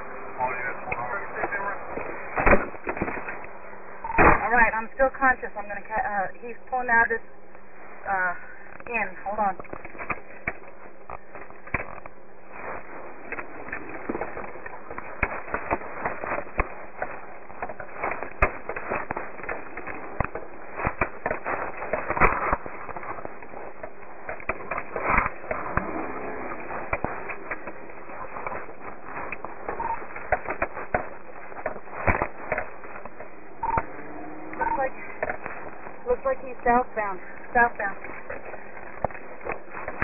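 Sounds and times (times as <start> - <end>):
crackling and sharp pops: 0.2 - 40.0.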